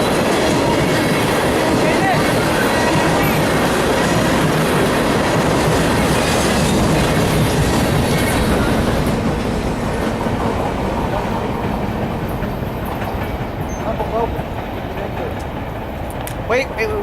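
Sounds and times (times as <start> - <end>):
freight train wheels clattering: 0.0 - 17.0.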